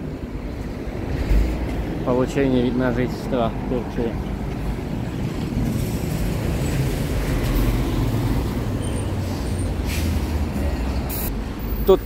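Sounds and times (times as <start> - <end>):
heavy road traffic: 0.0 - 12.0.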